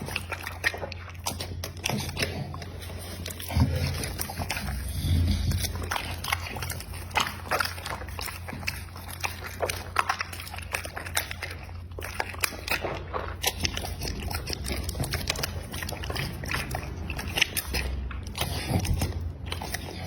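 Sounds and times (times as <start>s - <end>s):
dog chewing food: 0.0s - 20.0s.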